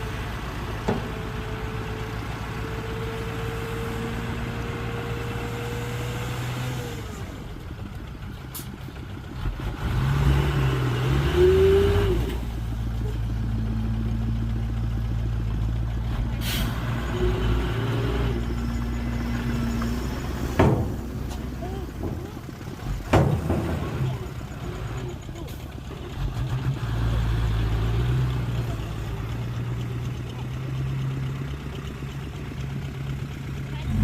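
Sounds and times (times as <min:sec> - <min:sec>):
heavy diesel engine revving: 0:00.0 - 0:34.0.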